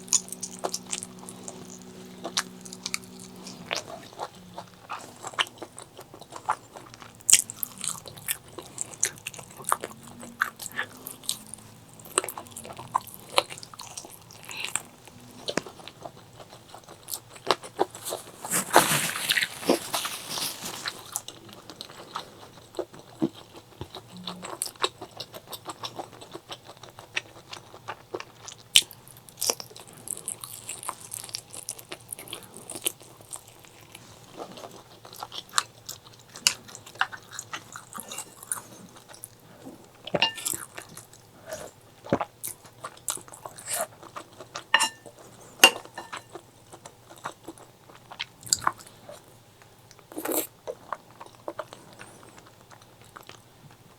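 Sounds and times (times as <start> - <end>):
chewing and biting: 0.0 - 49.3, 49.9 - 53.9.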